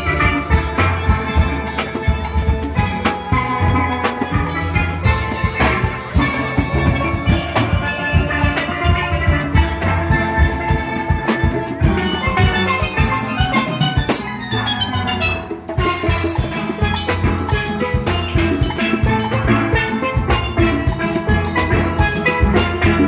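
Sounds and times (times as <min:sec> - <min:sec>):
steel band playing: 0:00.0 - 0:23.0.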